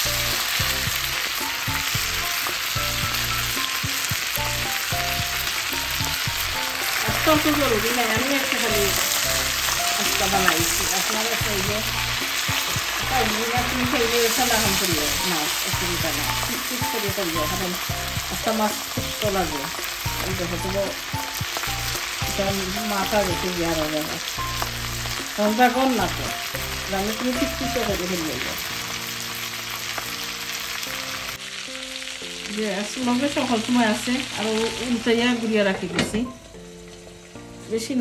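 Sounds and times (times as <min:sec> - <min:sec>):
fish sizzling on griddle: 0:00.0 - 0:38.0.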